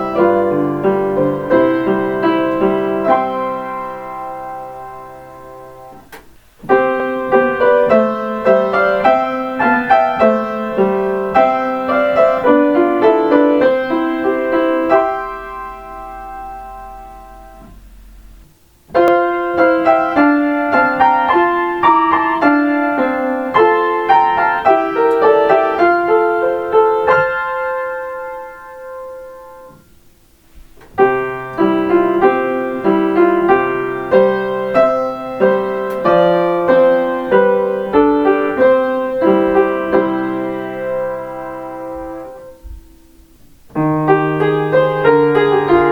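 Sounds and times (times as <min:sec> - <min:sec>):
solo piano chime melody: 0:00.0 - 0:06.0, 0:06.7 - 0:17.8, 0:19.0 - 0:29.8, 0:31.0 - 0:42.8, 0:43.8 - 0:45.9.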